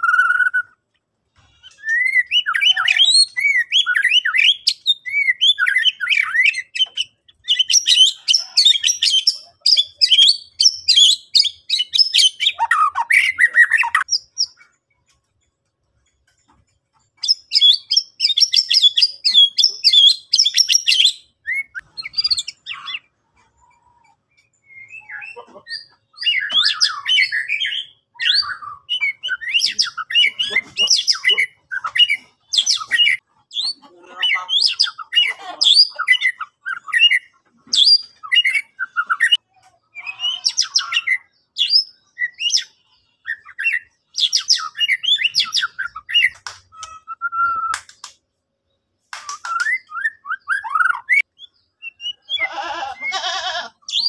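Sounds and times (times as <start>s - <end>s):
songbird whistling and chattering: 0.0s - 0.8s, 1.5s - 14.8s, 17.2s - 48.2s, 49.1s - 54.0s.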